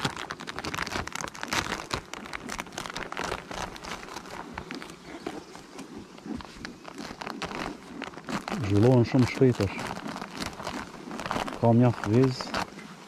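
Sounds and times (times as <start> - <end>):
plastic sheet crinkling: 0.0 - 13.0.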